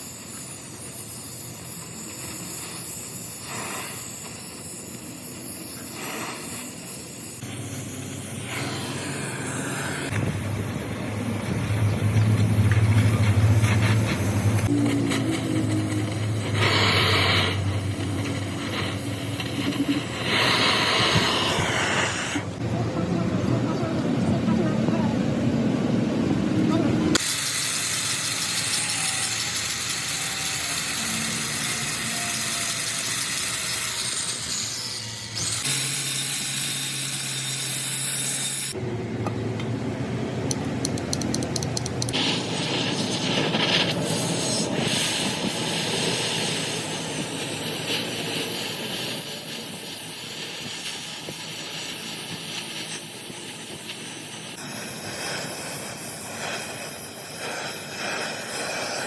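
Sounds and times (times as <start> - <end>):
metalworking hiss: 0.0 - 22.6, 27.1 - 38.8, 42.0 - 59.0.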